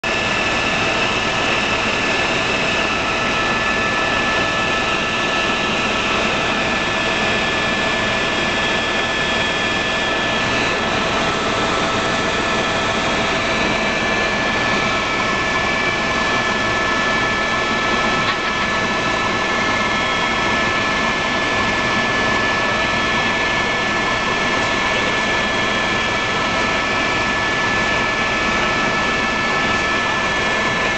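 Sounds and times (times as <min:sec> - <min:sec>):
constant roar: 0:00.0 - 0:30.9
helicopter engine whine: 0:00.0 - 0:30.9.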